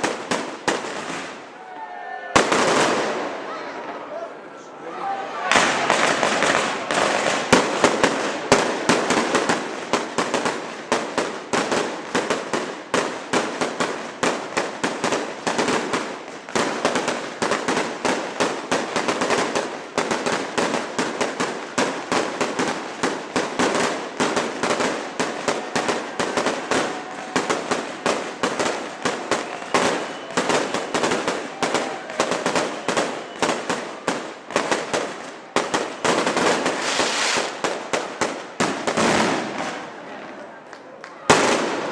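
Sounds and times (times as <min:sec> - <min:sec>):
fireworks bangs: 0:00.0 - 0:04.4, 0:05.2 - 0:41.9.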